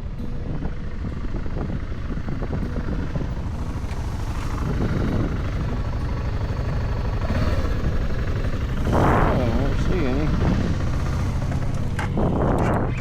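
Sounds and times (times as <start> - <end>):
motorcycle engine rumble: 0.0 - 13.0
wind rush: 0.0 - 13.0.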